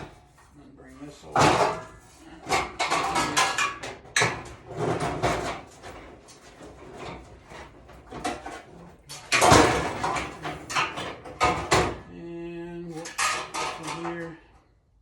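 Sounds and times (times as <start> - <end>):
tools clicking and scraping on metal: 0.0 - 12.1, 12.9 - 14.5
tool clatter: 1.2 - 12.1, 12.9 - 14.4.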